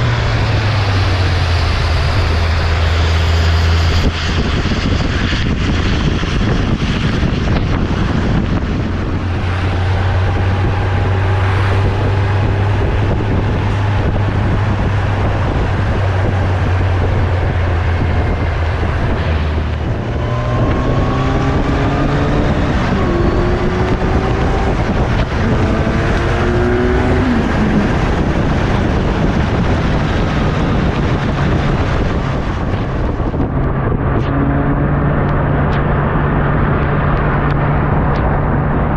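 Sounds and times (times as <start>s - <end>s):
heavy wind noise: 0.0s - 38.9s
motorcycle engine accelerating: 0.0s - 38.9s.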